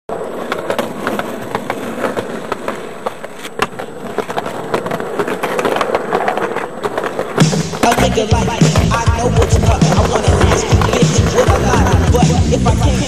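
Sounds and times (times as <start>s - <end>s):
skateboard clack: 0.1s - 13.0s
skateboard wheels rolling on concrete: 0.1s - 13.0s.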